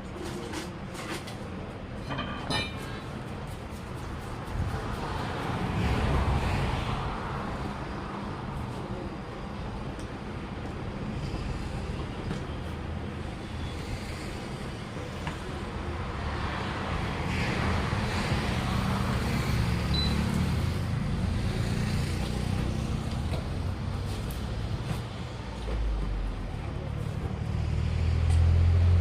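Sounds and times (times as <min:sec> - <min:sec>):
road traffic noise: 0:00.0 - 0:29.0
vehicle engine rumble: 0:02.7 - 0:29.0.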